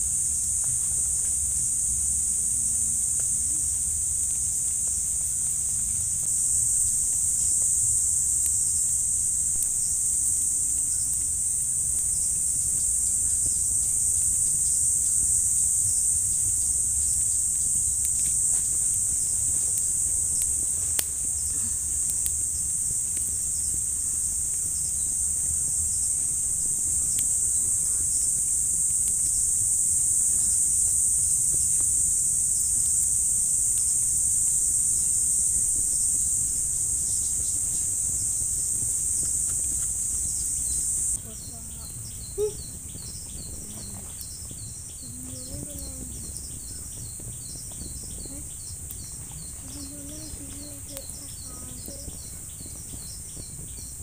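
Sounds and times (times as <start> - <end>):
forest insect chorus drone: 0.0 - 54.0.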